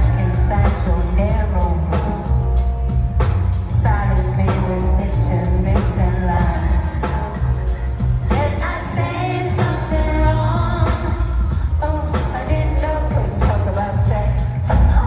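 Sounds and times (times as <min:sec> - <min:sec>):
band playing pop: 0:00.0 - 0:15.0.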